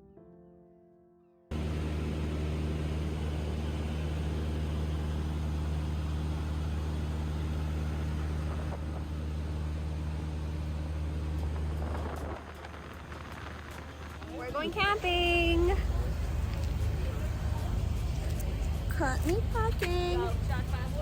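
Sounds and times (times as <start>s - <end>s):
engine droning steadily: 1.5s - 21.0s.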